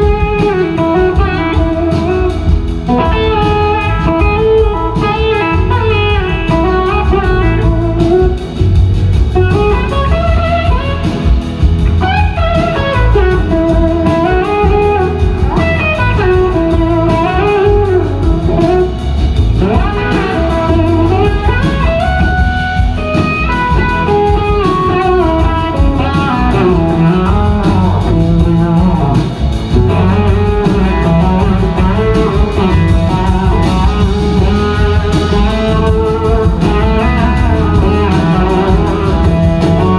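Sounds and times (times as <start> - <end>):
live blues-rock band: 0.0 - 39.9
slide electric guitar: 0.0 - 39.9.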